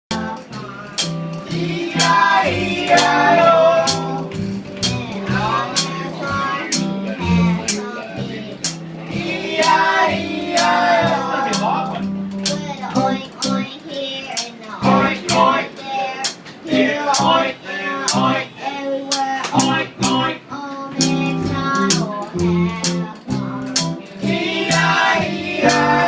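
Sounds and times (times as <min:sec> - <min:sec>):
guitar strumming: 0:00.1 - 0:26.0
voices singing: 0:00.1 - 0:26.0.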